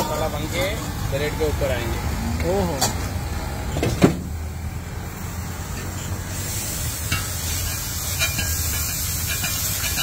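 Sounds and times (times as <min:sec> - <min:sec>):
masala sizzling on iron griddle: 0:00.0 - 0:03.5, 0:04.3 - 0:10.0.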